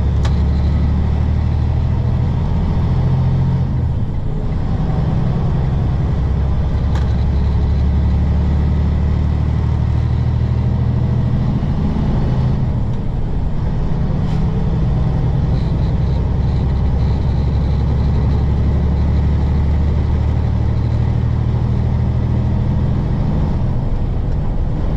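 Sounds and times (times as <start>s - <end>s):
truck diesel engine droning: 0.0s - 24.9s.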